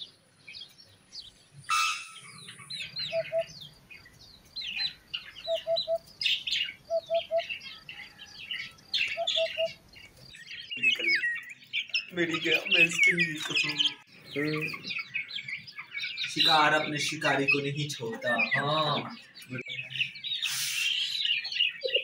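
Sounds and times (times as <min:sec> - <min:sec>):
chicks and birds chirping: 0:00.0 - 0:22.0.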